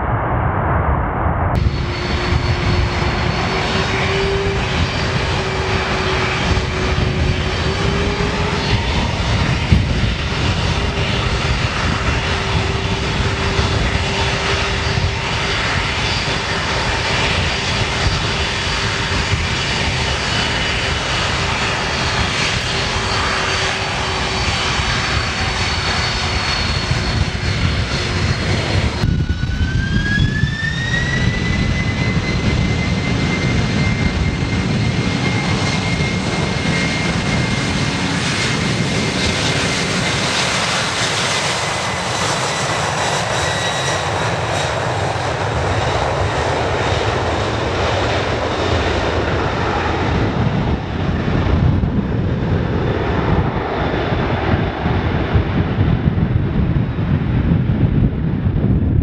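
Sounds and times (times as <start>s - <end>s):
jet engine whine: 0.0s - 59.0s
jet engines rumbling: 0.0s - 59.0s.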